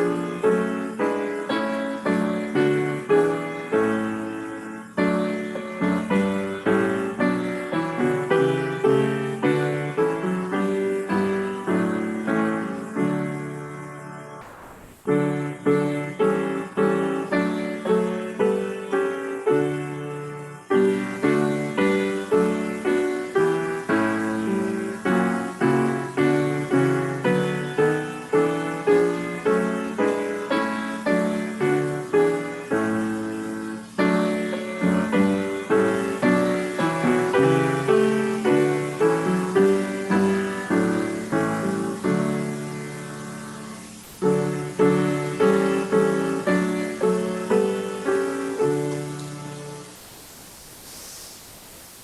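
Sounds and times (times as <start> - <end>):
piano playing hymn chords: 0.0 - 50.3.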